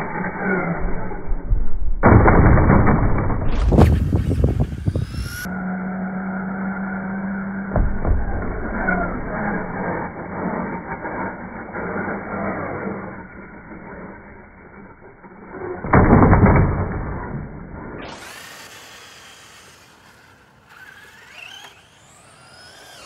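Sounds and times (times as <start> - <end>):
rising whine: 0.0 - 23.0
slowed-down toy truck jumping: 0.0 - 23.0.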